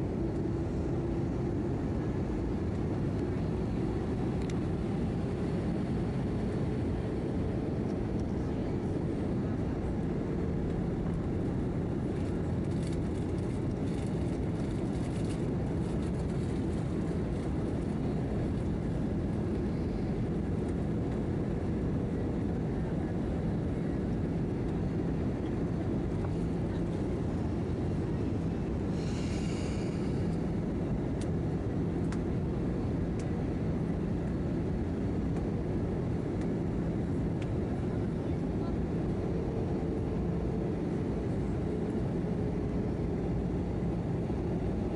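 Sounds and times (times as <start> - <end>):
airliner engines droning: 0.0 - 44.9
faint steady hums: 0.0 - 44.9.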